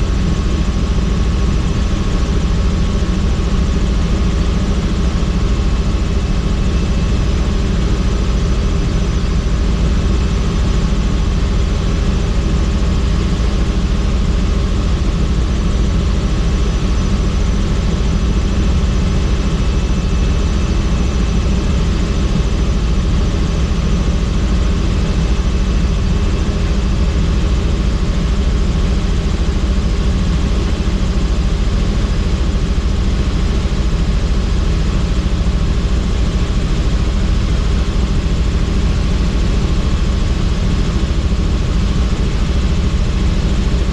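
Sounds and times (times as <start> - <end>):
helicopter engine and rotor drone: 0.0 - 43.9.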